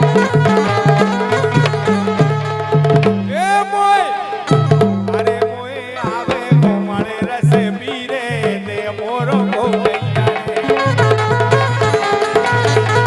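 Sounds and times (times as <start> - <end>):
hand drum strokes: 0.0 - 3.5, 4.4 - 13.0
pitch-bending melody: 0.0 - 13.0.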